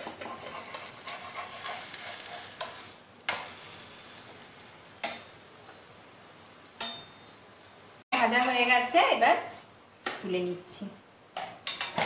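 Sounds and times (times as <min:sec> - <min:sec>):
crepe sizzling in a frying pan: 0:00.0 - 0:09.7.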